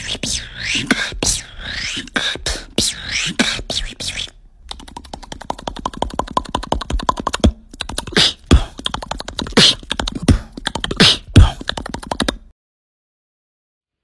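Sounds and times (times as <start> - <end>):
mouth clicks: 0.0 - 12.4
beatboxed kick and snare beat: 0.0 - 12.5.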